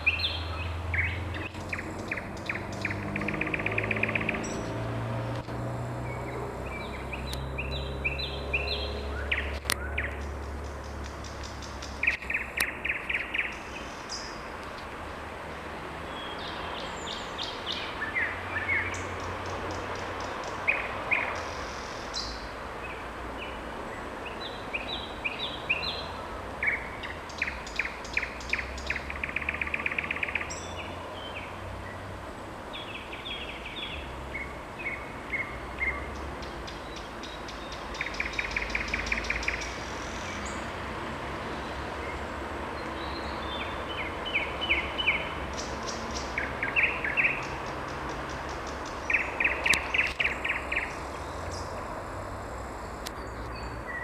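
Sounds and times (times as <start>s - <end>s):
nightingale singing: 0.0s - 5.2s, 6.0s - 14.9s, 16.1s - 32.1s, 32.7s - 40.7s, 41.5s - 52.0s.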